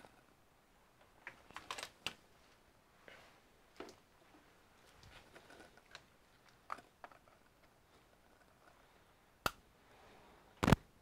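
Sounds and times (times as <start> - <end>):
faint handling noise: 0.0 - 9.3.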